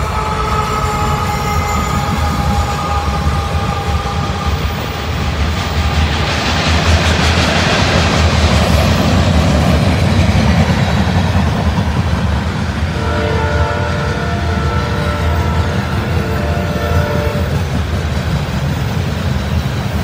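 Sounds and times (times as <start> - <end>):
train wheels rumbling and clattering: 0.0 - 20.0.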